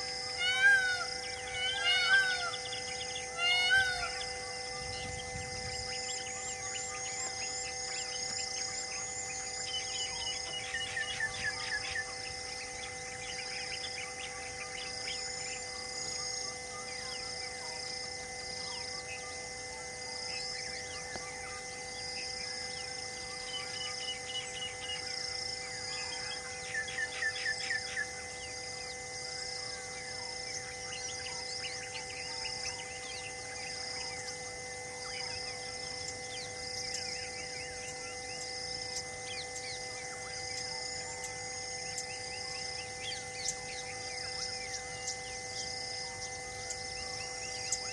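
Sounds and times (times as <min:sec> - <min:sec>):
descending whistled bird notes: 0:00.0 - 0:17.6, 0:20.3 - 0:47.9
high insect buzz: 0:00.0 - 0:47.9.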